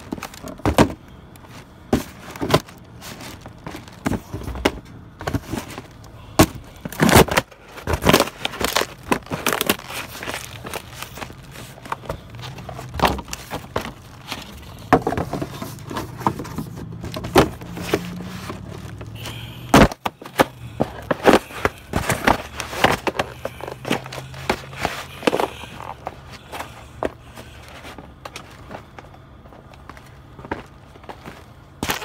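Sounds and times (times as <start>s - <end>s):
cardboard boxes crushed underfoot: 0.0s - 32.0s.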